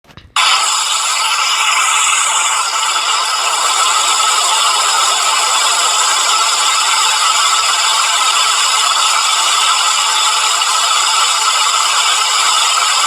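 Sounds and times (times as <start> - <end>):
loud steady hissing: 0.4 - 13.0.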